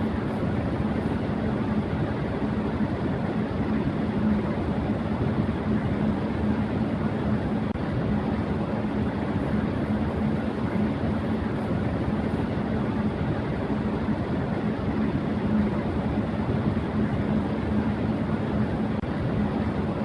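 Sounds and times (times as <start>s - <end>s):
electric fan air rush: 0.0s - 20.0s
low fan hum: 0.0s - 20.0s.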